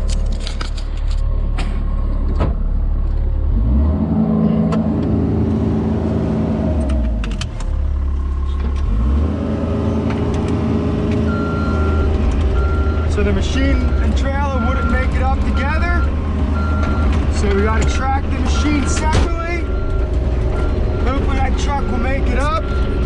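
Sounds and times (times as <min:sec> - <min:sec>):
diesel engine rumbling and revving: 0:00.0 - 0:23.0.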